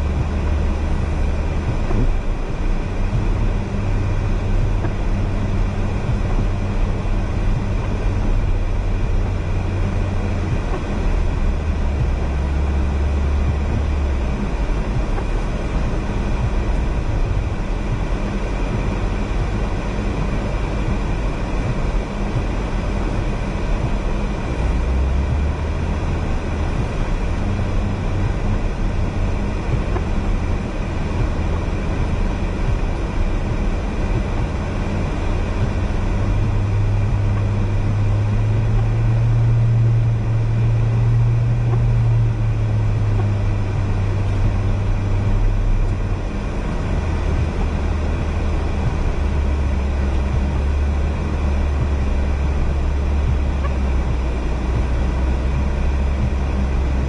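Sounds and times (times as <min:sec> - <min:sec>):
car engine drone from inside: 0:00.0 - 0:57.0
road noise rushing: 0:00.0 - 0:57.0.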